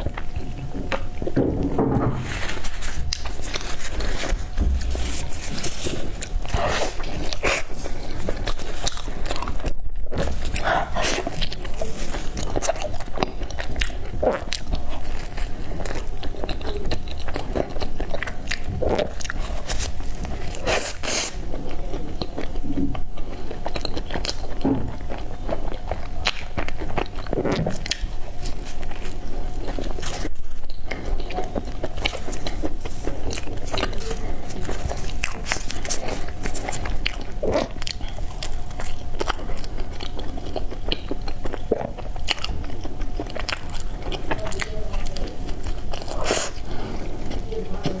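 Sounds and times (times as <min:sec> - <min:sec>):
bread crunching: 0:00.0 - 0:48.0.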